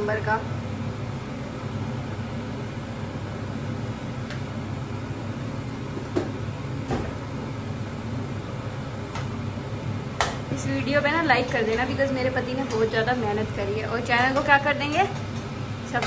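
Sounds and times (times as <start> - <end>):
gas stove burner humming: 0.0 - 16.0.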